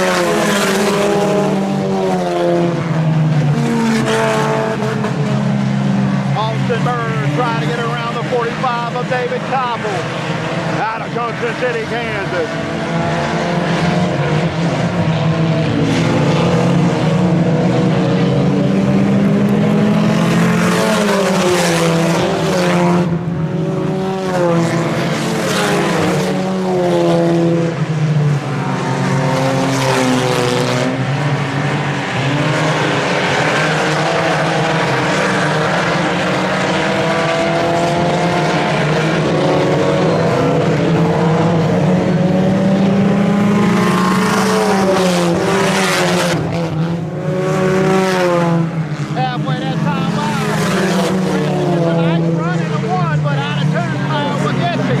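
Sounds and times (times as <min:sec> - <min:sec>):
race car engines lapping: 0:00.0 - 0:55.0.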